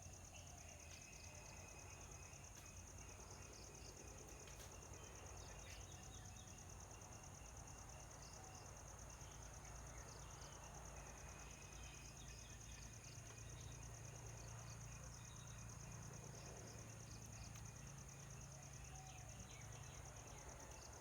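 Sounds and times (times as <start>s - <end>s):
insect trill: 0.0s - 21.0s.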